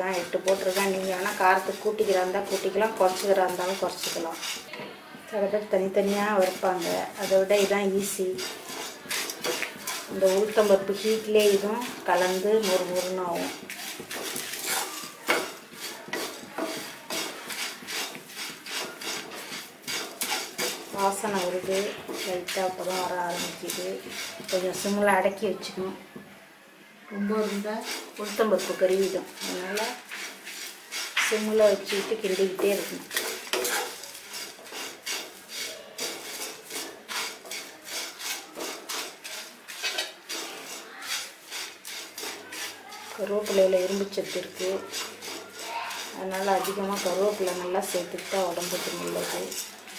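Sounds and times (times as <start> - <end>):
leaves rustling in pan: 0.0 - 4.8, 5.8 - 25.8, 27.3 - 49.9
spatula scraping pan: 0.0 - 25.9, 27.2 - 49.9.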